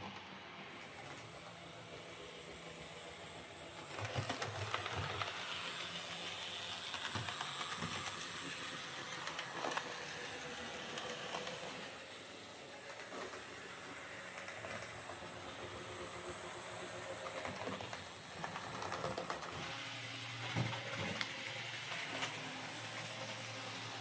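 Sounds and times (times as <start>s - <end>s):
model train motor whirring: 0.2s - 24.0s.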